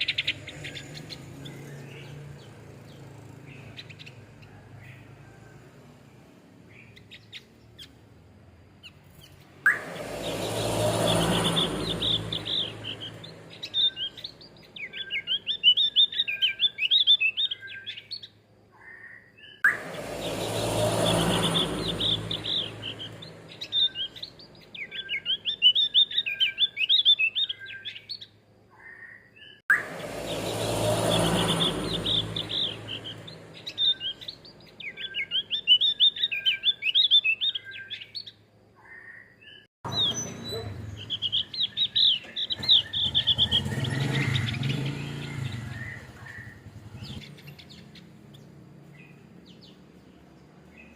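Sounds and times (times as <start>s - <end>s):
bird chattering song: 0.0s - 5.4s, 6.6s - 8.2s, 8.8s - 50.9s.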